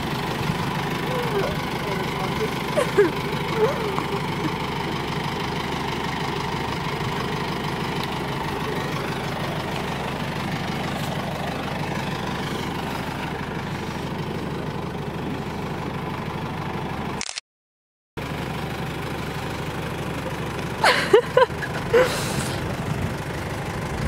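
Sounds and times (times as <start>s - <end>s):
jeep engine idling: 0.0s - 17.2s, 18.2s - 24.0s.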